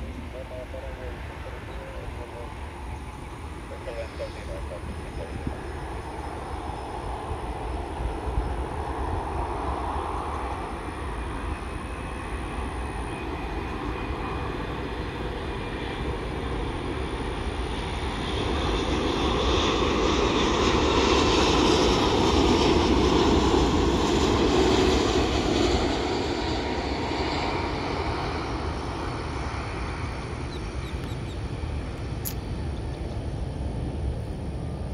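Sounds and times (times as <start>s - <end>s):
jet airliner engine rumble: 0.0s - 34.9s.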